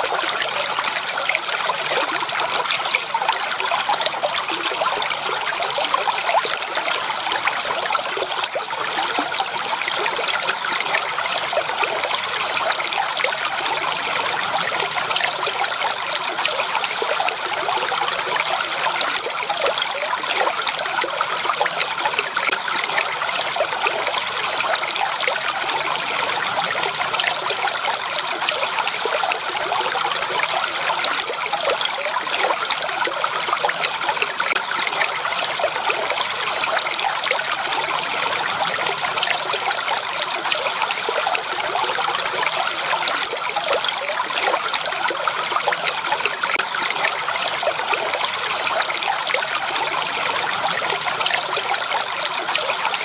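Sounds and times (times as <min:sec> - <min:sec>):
stream water babbling over stones: 0:00.0 - 0:53.0.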